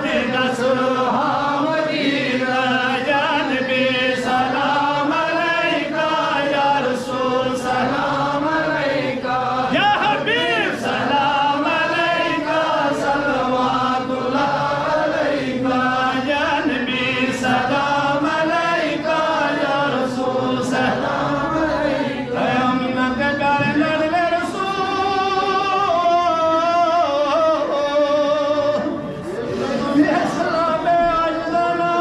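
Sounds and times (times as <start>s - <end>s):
voices singing a chant: 0.0s - 32.0s.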